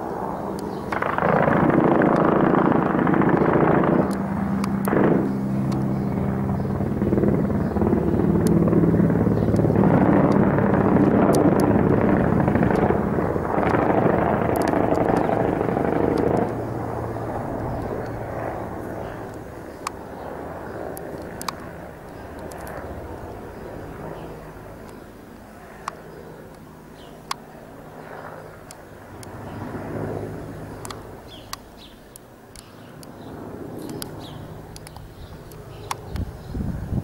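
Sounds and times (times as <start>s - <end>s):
helicopter rotor and turbine drone: 0.0s - 37.0s.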